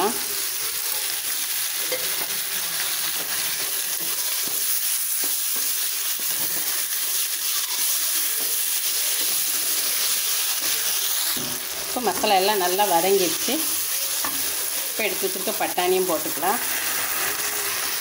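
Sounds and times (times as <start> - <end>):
vegetables sizzling in oil: 0.0 - 18.0
spoon stirring in a pan: 1.0 - 18.0.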